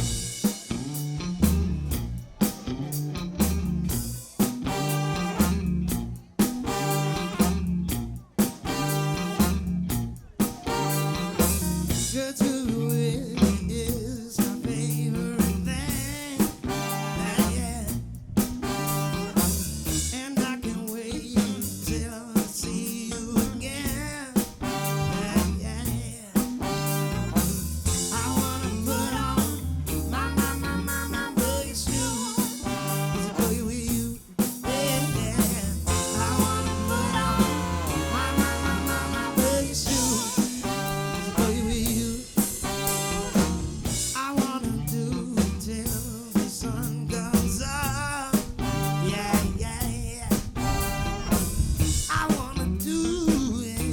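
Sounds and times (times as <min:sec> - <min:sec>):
drum kit beat: 0:00.0 - 0:53.9
live soul band playing: 0:00.0 - 0:53.9.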